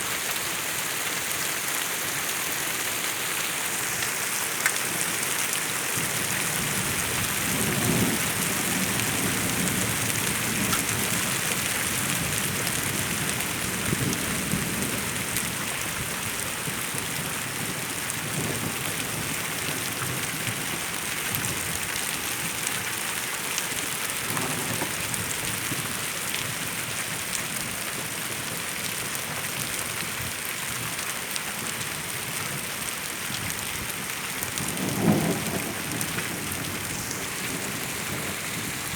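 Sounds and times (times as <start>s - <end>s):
rain pattering on surfaces: 0.1s - 38.9s.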